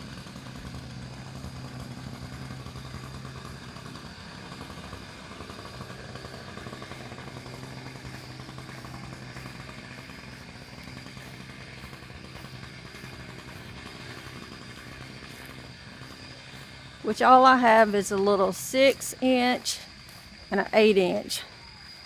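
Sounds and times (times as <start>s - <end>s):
engine idling with low hum: 0.0s - 22.0s.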